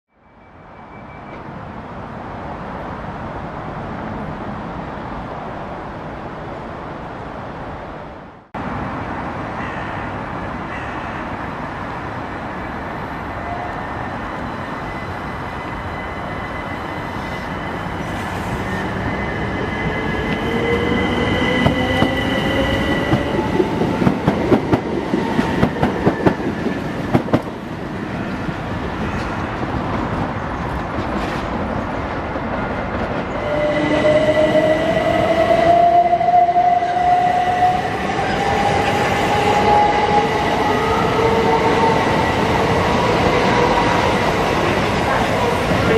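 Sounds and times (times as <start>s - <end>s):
train rumbling on tracks: 0.4s - 45.9s.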